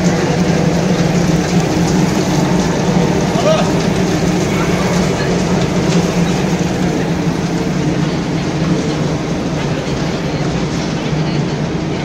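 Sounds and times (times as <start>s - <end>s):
machinery din: 0.0s - 11.3s
low machine hum: 0.0s - 12.0s.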